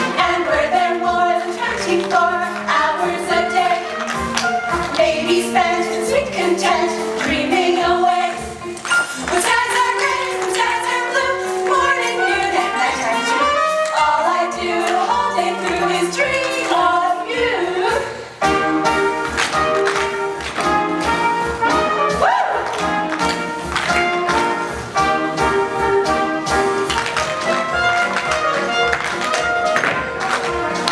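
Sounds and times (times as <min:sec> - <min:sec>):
brass band show tune: 0:00.0 - 0:30.9.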